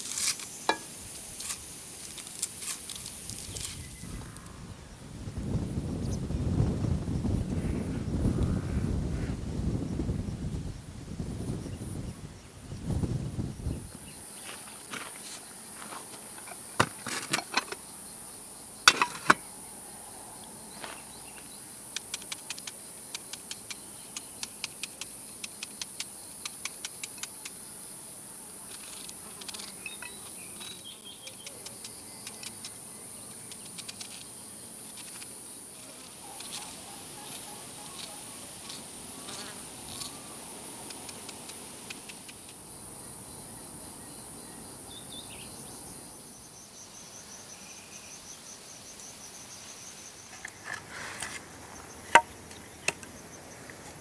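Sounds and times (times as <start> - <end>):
crickets chirping: 0.0 - 9.0, 9.6 - 54.0.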